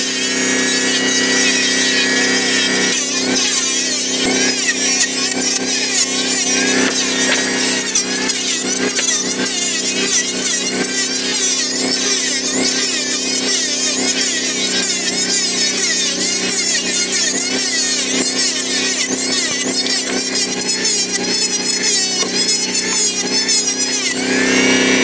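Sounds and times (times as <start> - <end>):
electric planer shaving wood: 0.0 - 25.0
motor hum: 0.0 - 25.0.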